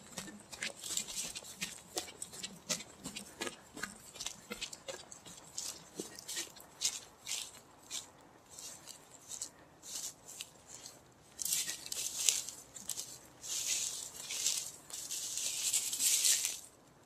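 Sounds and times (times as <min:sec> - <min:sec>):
grass swishing and rustling: 0:00.0 - 0:04.7, 0:05.3 - 0:16.8.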